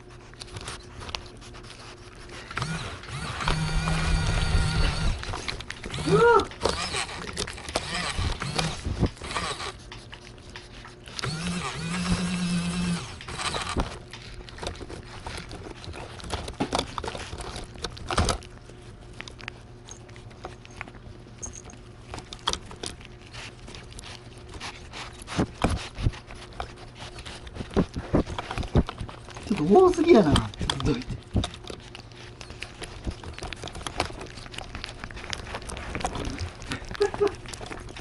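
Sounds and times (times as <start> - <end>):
cats licking and lapping: 0.0 - 38.0.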